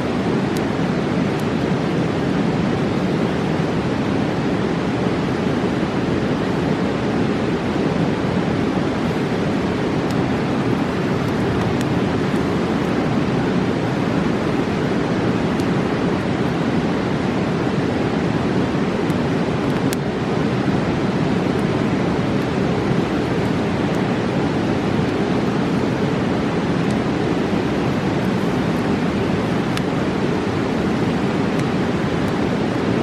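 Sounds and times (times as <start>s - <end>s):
campfire popping: 0.0s - 33.0s
river rushing: 0.0s - 33.0s.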